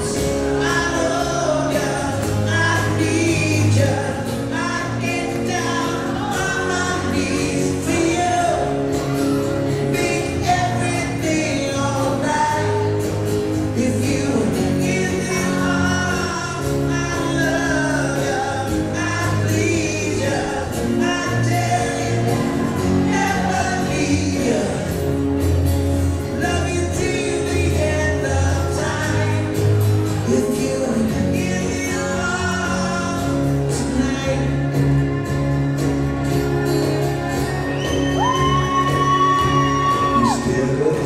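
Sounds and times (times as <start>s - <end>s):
person singing: 0.0s - 25.4s, 26.2s - 35.9s, 36.5s - 41.0s
acoustic guitar: 0.0s - 41.0s.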